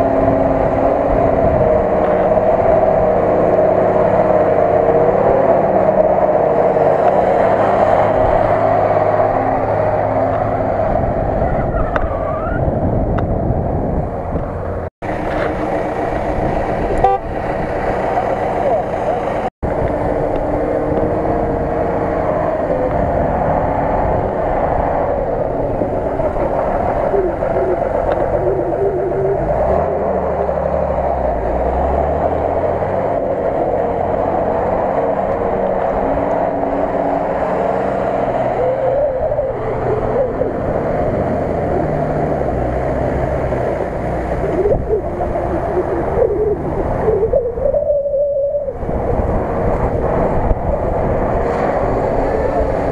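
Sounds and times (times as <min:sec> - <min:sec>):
off-road vehicle engine revving: 0:00.0 - 0:48.0, 0:48.6 - 0:52.9.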